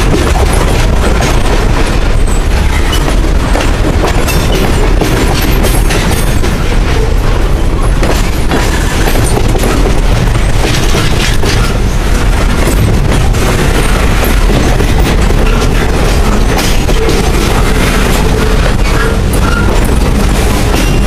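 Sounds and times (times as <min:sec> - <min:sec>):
freight train rumbling past: 0:00.0 - 0:21.0
wheels clanking over rail joints: 0:00.0 - 0:21.0.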